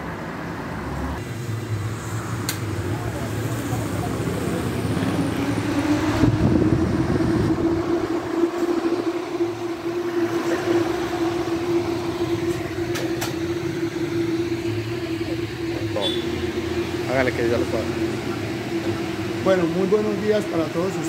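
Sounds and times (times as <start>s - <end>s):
extractor fan humming: 1.2s - 21.0s.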